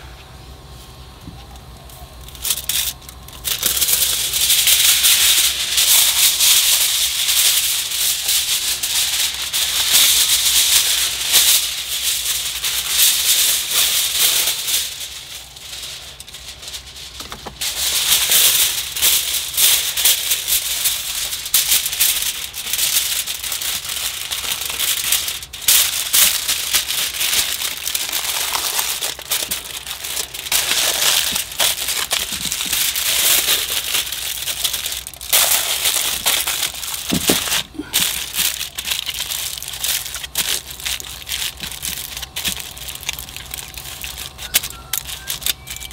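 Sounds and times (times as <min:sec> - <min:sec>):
aluminium foil crinkling: 0:00.9 - 0:45.9.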